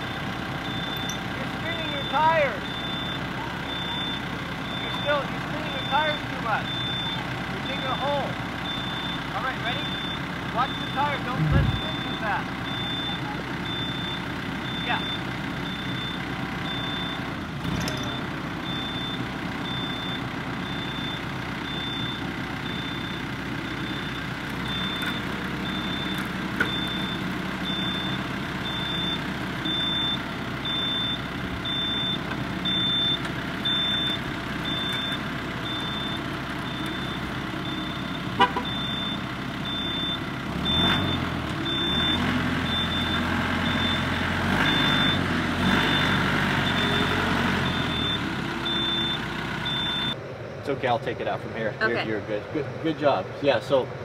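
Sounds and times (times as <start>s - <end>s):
tractor diesel engine: 0.0s - 54.0s
reversing beeps: 0.6s - 17.3s, 17.9s - 50.2s.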